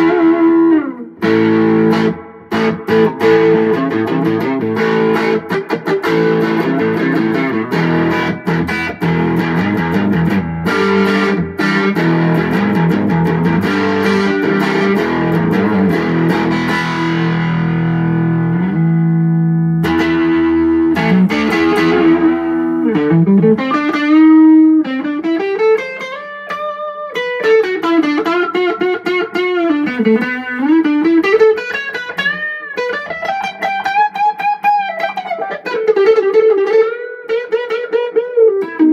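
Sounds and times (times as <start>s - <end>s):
electric guitar chords strummed: 0.0s - 38.9s
electric guitar single-note lead: 0.0s - 38.9s.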